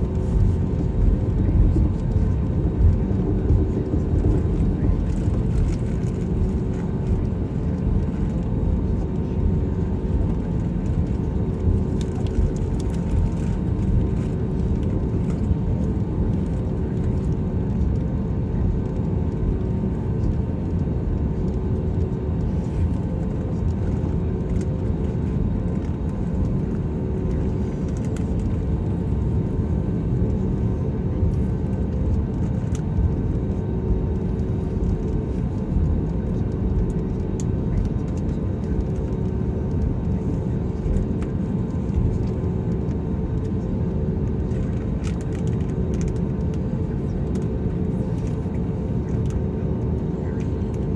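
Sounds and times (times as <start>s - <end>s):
aircraft cabin rumble: 0.0s - 50.9s
jet engine hums: 0.0s - 50.9s.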